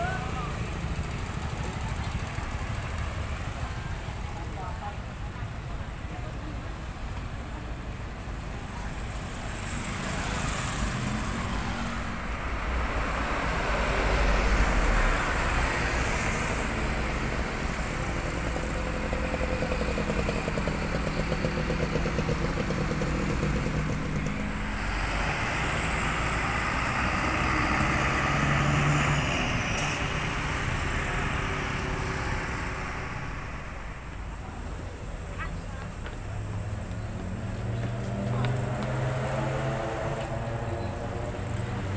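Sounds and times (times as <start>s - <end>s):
bus engine running: 0.0s - 39.0s
motorcycle engines passing: 6.4s - 41.9s.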